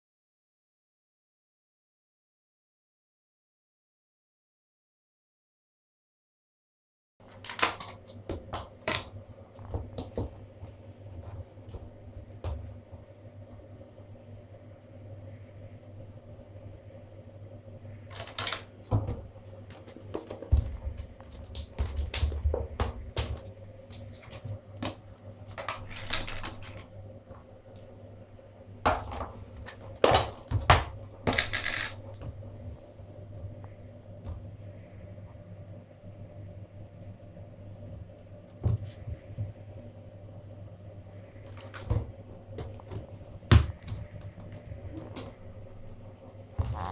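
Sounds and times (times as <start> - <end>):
steady low hum: 7.2 - 46.9.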